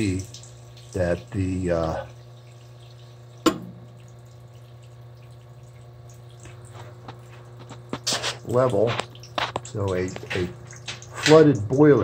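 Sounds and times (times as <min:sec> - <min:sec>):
steady low hum: 0:00.0 - 0:12.0
water trickling and dripping: 0:00.0 - 0:12.0.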